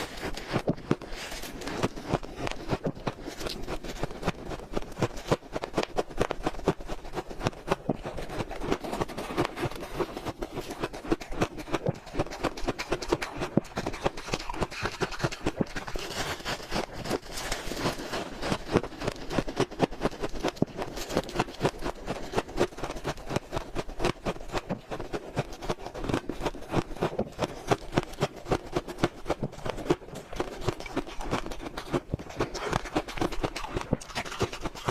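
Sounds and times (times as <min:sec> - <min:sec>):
crunching ice while chewing: 0:00.0 - 0:34.9.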